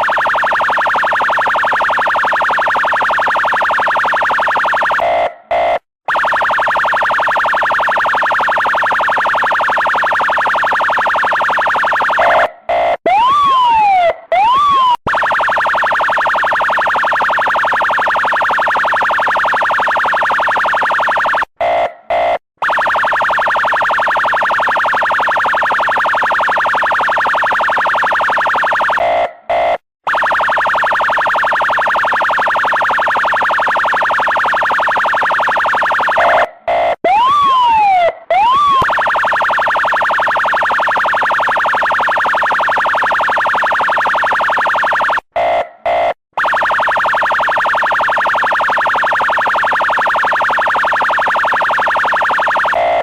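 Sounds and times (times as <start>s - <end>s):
police siren warbling and wailing: 0.0s - 53.0s.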